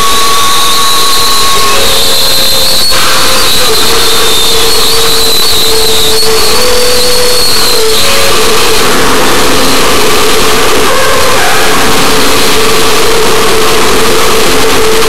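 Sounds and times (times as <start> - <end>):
harsh steady hissing: 0.0 - 15.0
wavering whistle-like tones: 0.0 - 15.0.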